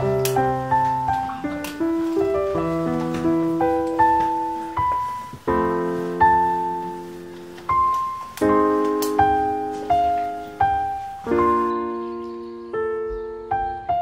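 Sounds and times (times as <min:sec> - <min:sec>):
slow piano piece: 0:00.0 - 0:14.0.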